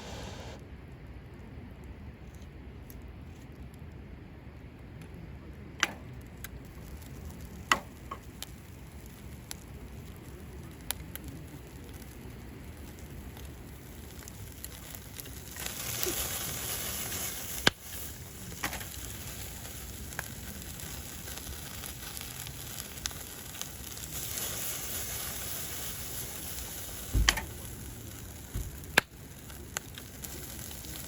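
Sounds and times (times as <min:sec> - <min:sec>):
fire crackling and hissing: 0:00.0 - 0:31.0
fire sharp pops: 0:05.7 - 0:31.0.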